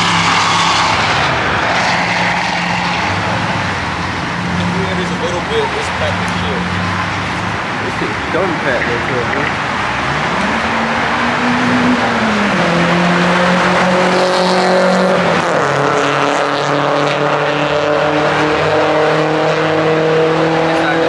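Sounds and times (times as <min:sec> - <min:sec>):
car engine at high revs: 0:00.0 - 0:21.0.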